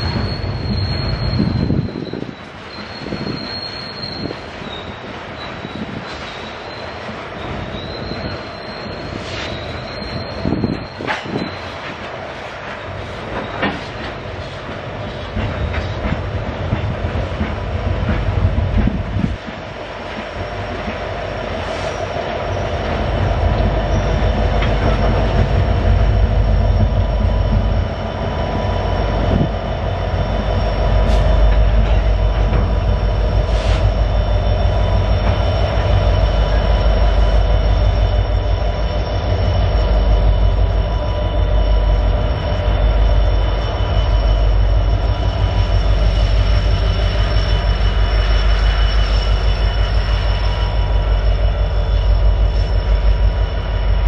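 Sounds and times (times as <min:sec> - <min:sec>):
wheel squeal: 0:00.0 - 0:19.4, 0:20.3 - 0:54.0
train wheels rumbling on rail: 0:00.0 - 0:54.0.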